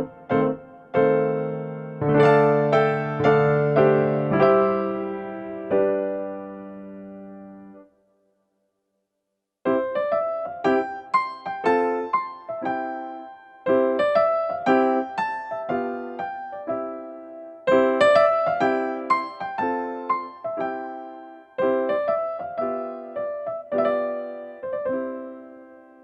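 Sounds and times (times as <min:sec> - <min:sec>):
gentle piano melody: 0:00.0 - 0:08.0, 0:09.7 - 0:26.0.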